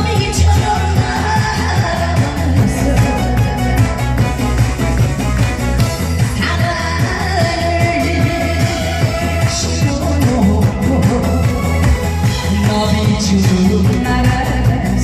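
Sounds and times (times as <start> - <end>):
amplified music with singer: 0.0 - 15.0.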